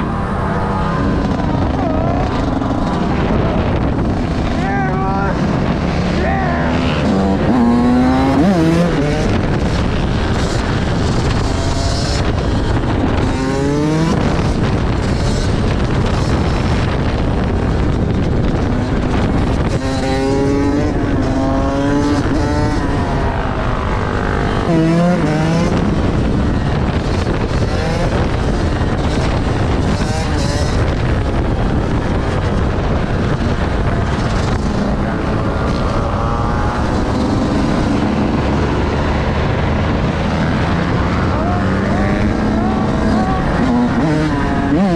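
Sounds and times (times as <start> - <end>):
motorcycle engines revving: 0.0 - 44.9
wind and road noise: 0.0 - 44.9.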